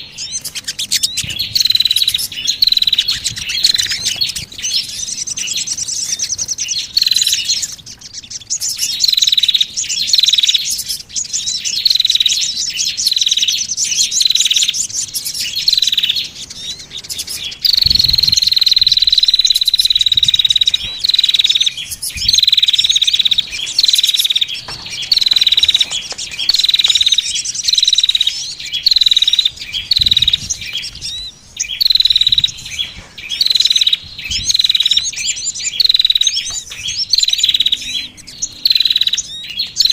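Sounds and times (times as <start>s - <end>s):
buzzy high bird trill: 0.0s - 39.9s
songbirds chirping: 0.0s - 39.9s.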